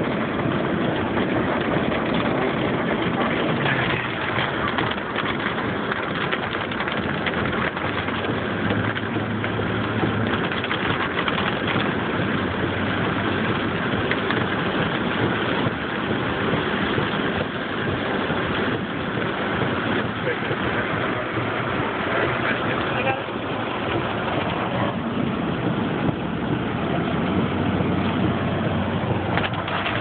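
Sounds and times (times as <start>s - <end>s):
car engine hum: 0.0s - 30.0s
tyres hissing on wet road: 0.0s - 30.0s.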